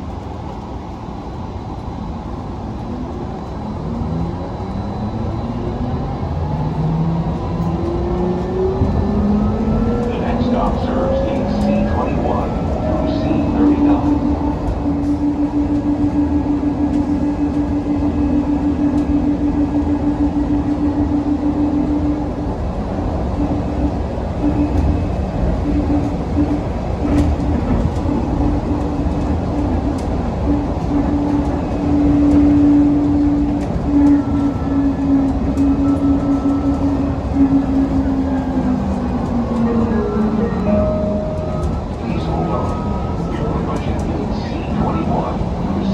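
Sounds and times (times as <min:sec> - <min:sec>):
train ride rumble: 0:00.0 - 0:45.9.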